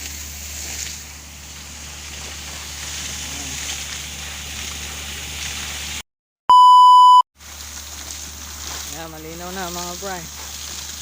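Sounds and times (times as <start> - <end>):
water and air gushing: 0.0 - 6.0, 7.4 - 11.0.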